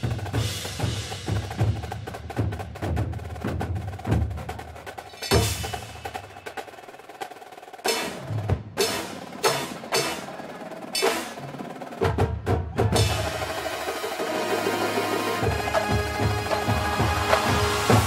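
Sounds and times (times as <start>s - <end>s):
front ensemble percussion: 0.0s - 18.0s
marching snare and tenor drums: 0.0s - 18.0s.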